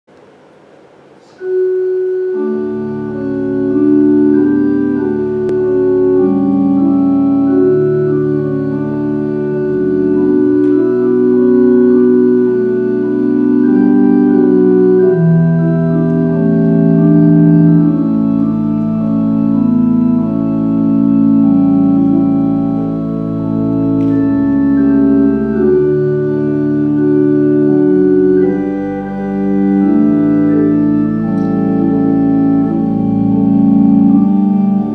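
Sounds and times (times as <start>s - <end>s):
organ playing slow chords: 0.2s - 34.9s.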